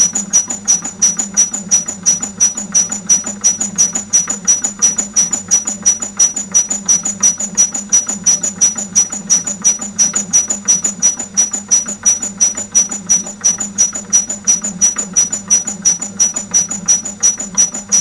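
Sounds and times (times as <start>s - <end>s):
laboratory shaker squeaking: 0.0s - 18.0s.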